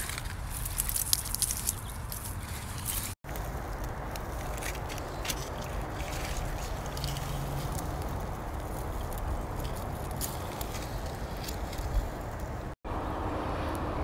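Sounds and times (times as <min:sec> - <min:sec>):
leaves rustling and crackling: 0:00.0 - 0:12.8
low outdoor rumble: 0:00.0 - 0:14.0.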